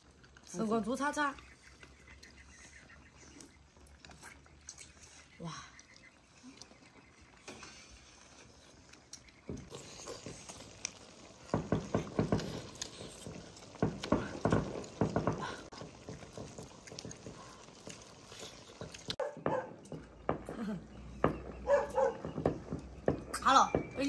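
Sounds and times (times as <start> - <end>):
gnawing and slurping: 0.0 - 23.1.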